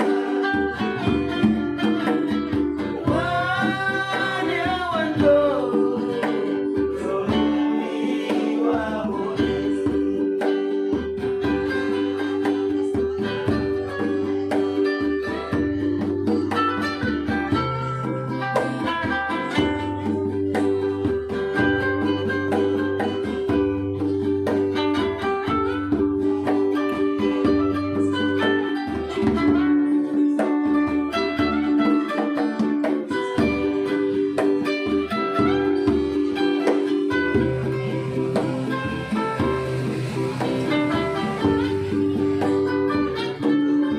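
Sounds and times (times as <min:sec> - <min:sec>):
bass line: 0:00.0 - 0:29.9, 0:34.8 - 0:43.9
strummed guitars and ukulele: 0:00.0 - 0:43.9.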